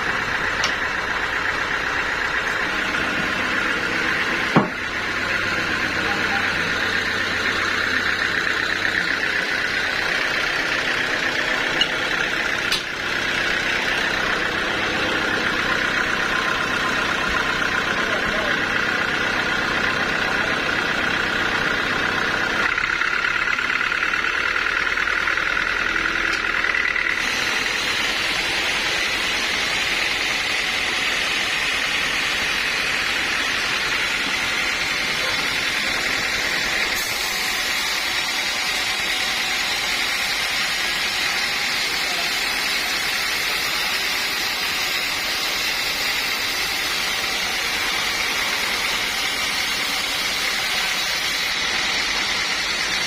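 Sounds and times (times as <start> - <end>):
sawmill machinery with high whine: 0.0 - 53.0.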